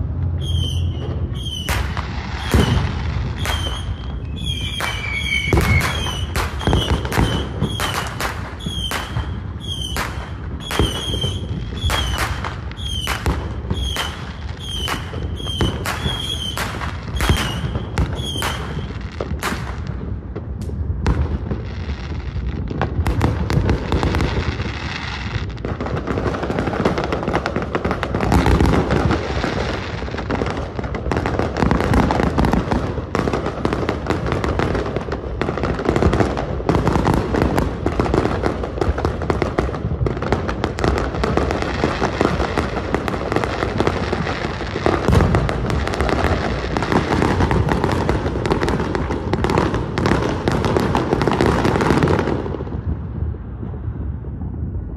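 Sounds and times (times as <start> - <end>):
fireworks crackling: 0.0 - 54.9
low firework booms: 0.0 - 54.9.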